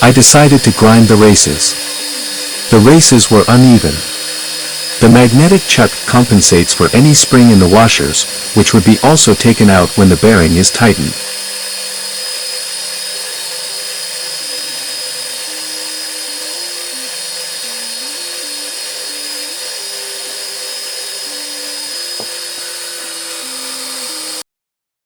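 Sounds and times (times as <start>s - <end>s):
surface grinder hiss and whine: 0.0s - 24.4s.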